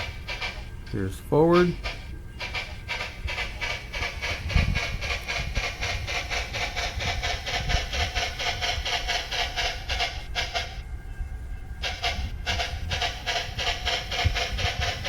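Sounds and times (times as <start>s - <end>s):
model locomotive steam chuffs: 0.0s - 10.8s, 11.8s - 15.0s.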